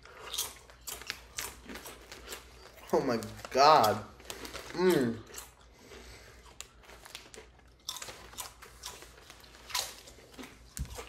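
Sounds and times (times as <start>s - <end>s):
potato chips crunching: 0.0s - 11.0s.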